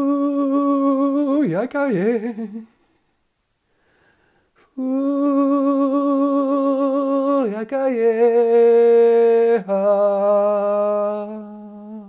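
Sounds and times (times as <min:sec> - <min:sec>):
man singing wordless held notes: 0:00.0 - 0:02.8, 0:04.6 - 0:12.0.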